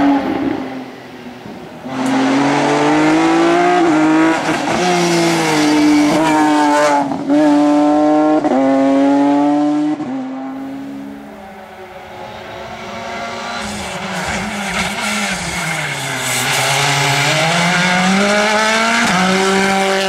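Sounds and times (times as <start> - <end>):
rally car engine accelerating: 1.8 - 11.3, 12.0 - 20.0.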